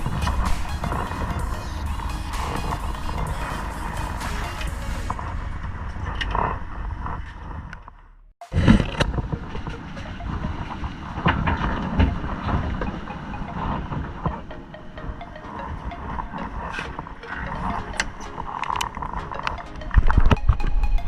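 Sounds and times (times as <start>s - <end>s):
boat engine rumble: 0.0s - 20.7s
wind and water noise: 0.0s - 21.0s.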